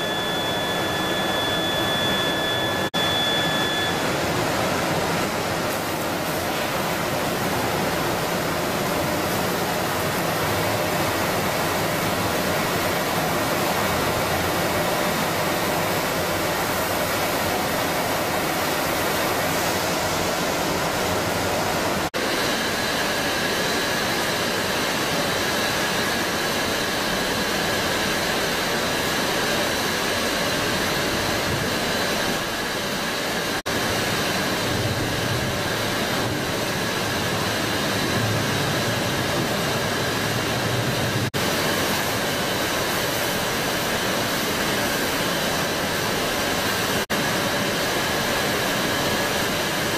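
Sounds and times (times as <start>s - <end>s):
faint steady whine: 0.0s - 49.9s
machine noise: 0.0s - 49.9s.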